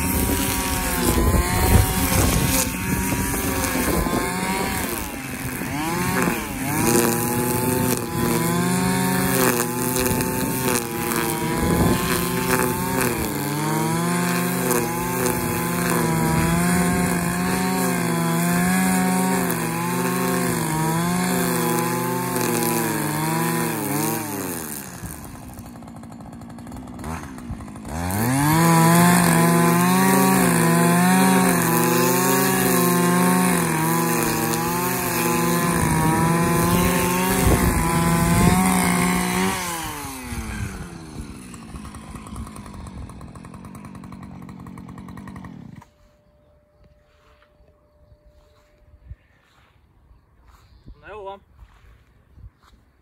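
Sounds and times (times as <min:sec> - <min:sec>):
brushcutter engine running: 0:00.0 - 0:49.7.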